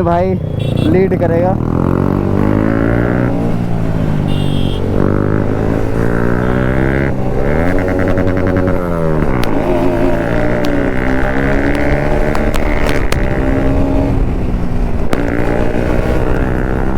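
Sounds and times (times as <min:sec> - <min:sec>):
motorcycle engine accelerating: 0:00.6 - 0:16.9.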